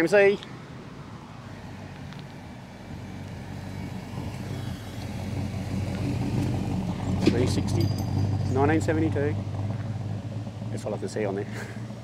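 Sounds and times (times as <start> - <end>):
car engine approaching: 0.0 - 12.0.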